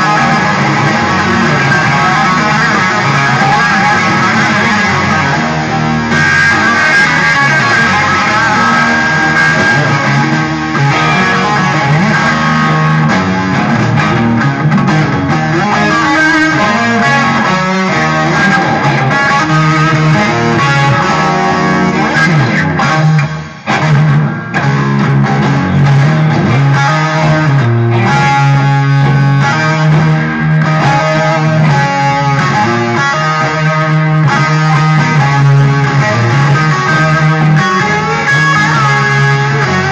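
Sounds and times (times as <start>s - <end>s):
bass line: 0.0s - 39.9s
electric guitar rock music: 0.0s - 39.9s.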